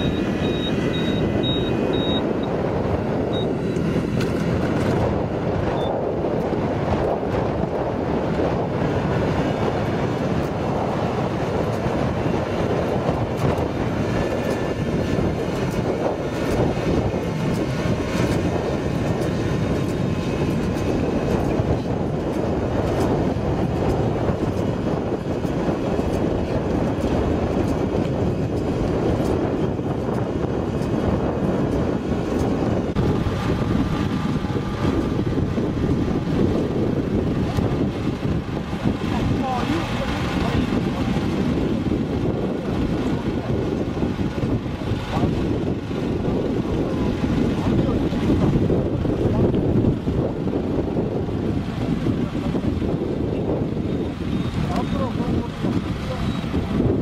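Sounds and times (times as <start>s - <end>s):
rice transplanter engine rumble: 0.0s - 57.0s.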